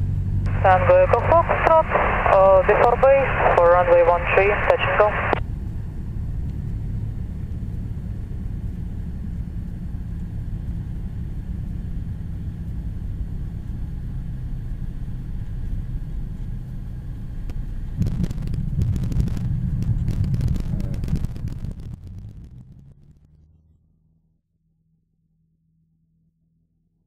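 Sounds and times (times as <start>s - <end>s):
aircraft engine idling: 0.0s - 23.7s.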